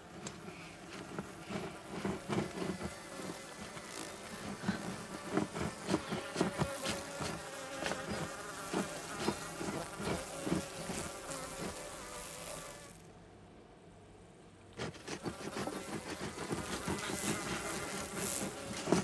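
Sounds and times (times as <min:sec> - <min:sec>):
wasps buzzing: 0:00.0 - 0:13.1, 0:14.8 - 0:19.0
knife sawing wood: 0:00.2 - 0:11.8, 0:14.8 - 0:19.0.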